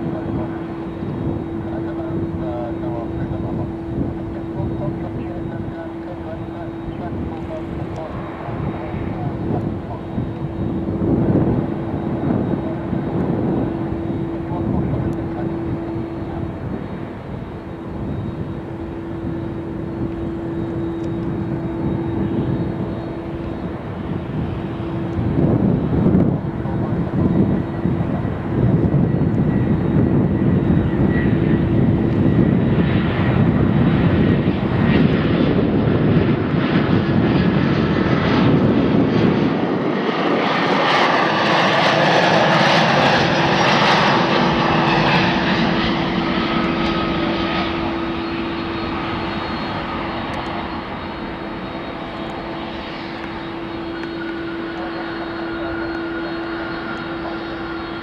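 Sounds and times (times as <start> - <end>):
jet airliner passing: 0.0 - 58.0.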